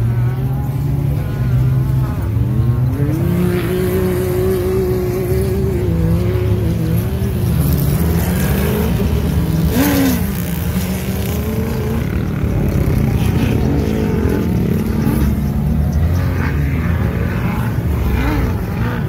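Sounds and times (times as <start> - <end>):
off-road car engines revving: 0.0 - 19.0.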